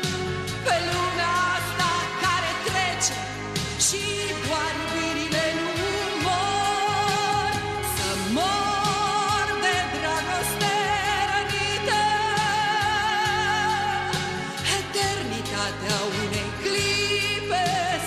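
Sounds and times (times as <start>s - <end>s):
pop song with vibrato vocals: 0.0s - 18.0s.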